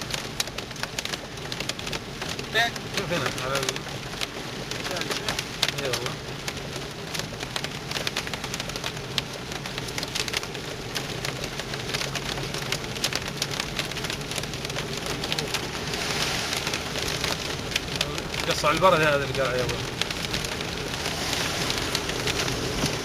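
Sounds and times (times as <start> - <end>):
hailstones ticking: 0.0 - 23.0
rain hissing: 0.0 - 23.0.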